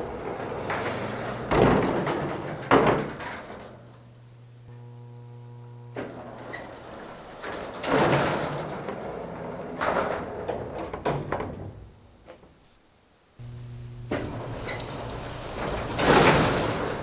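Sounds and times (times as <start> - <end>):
elevator doors sliding and clanking: 0.0 - 4.1, 6.0 - 12.6, 14.1 - 17.0
motor hum: 0.0 - 16.2.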